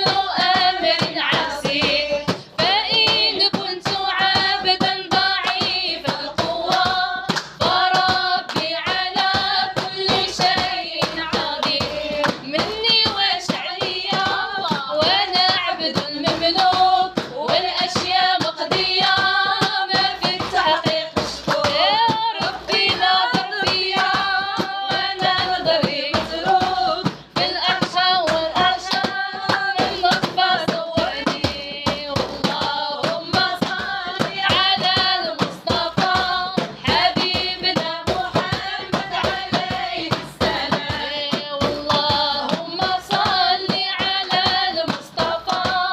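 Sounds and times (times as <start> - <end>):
rhythmic hand clapping: 0.0 - 45.9
voices singing devotional song: 0.0 - 45.9.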